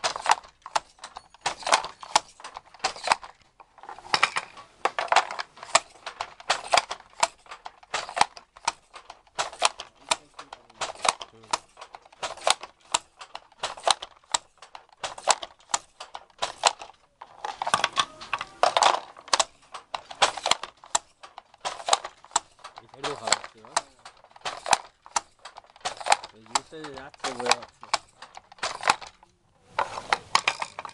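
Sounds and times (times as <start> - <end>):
wooden handloom clattering: 0.0 - 30.9.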